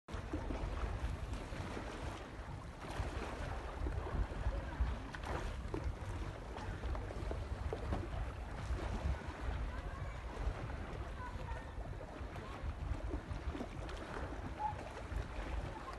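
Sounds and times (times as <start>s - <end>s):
low wind rumble: 0.1s - 15.9s
small waves lapping and splashing: 0.1s - 15.9s.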